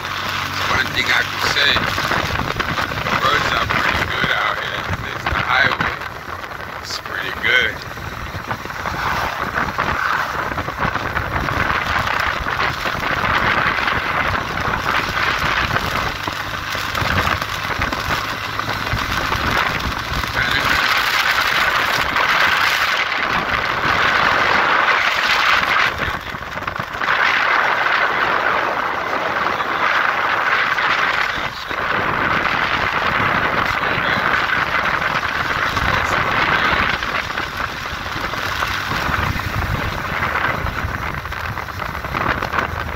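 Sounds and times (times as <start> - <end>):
motorcycle engine at speed: 0.0 - 42.9
wind noise: 0.0 - 42.9.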